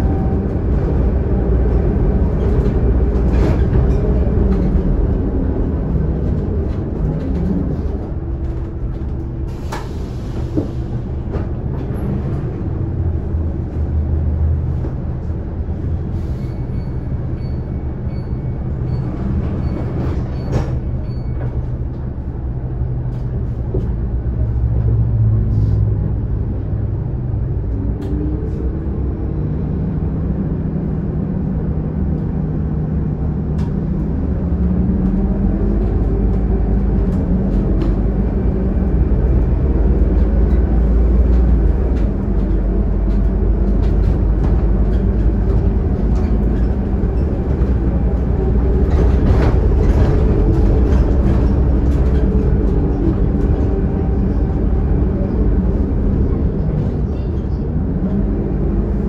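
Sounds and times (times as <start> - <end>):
bus body rattles and clicks: 0.0 - 59.0
bus diesel engine running: 0.0 - 59.0.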